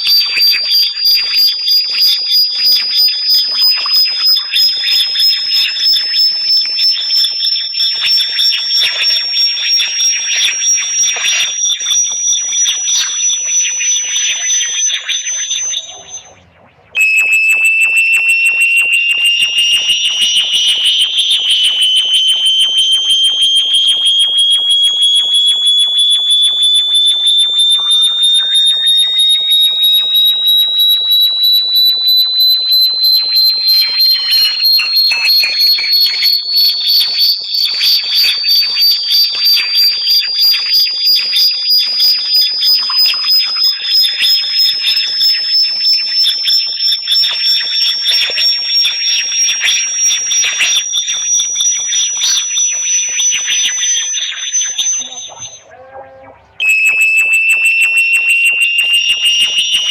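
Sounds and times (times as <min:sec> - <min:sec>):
pulsing high-pitched electronic tone: 0:00.0 - 0:59.9.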